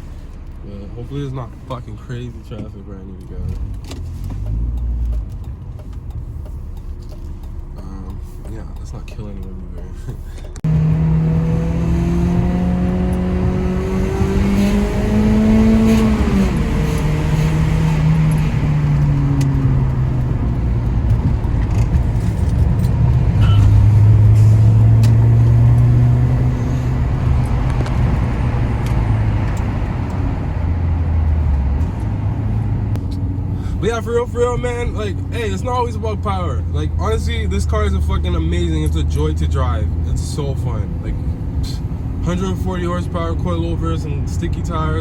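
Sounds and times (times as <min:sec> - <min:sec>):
car engine accelerating: 0:00.0 - 0:45.0
road noise: 0:00.0 - 0:45.0.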